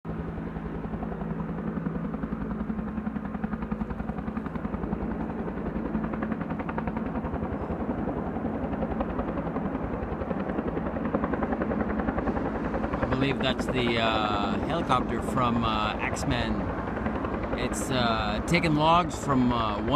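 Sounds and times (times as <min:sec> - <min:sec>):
helicopter rotor chopping: 0:00.1 - 0:19.9.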